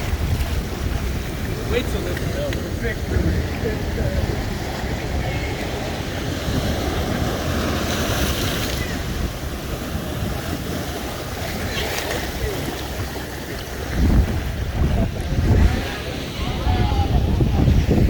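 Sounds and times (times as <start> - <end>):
waves washing in shallow water: 0.0 - 18.0
wind buffeting microphone: 0.0 - 18.0.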